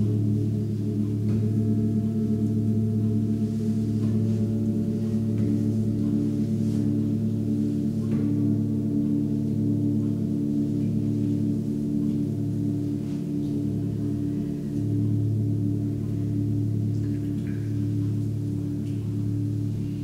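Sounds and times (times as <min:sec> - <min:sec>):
light strikes on bowls: 0:00.0 - 0:20.0
singing bowls ringing: 0:00.0 - 0:20.0.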